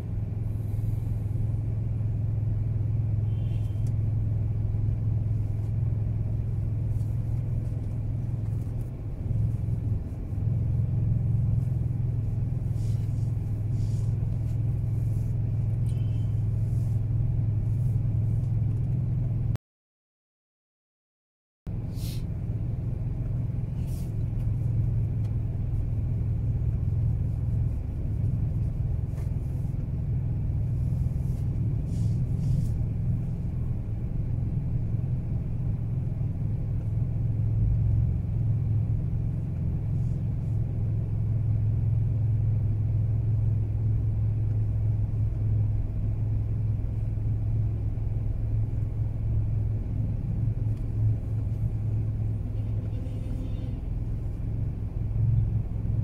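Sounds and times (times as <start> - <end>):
car engine and tyre noise: 0.0 - 19.6, 21.7 - 56.0.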